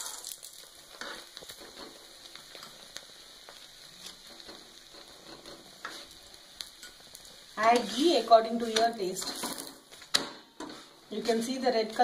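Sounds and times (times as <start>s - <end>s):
ghee sizzling on flatbread: 0.0s - 12.0s.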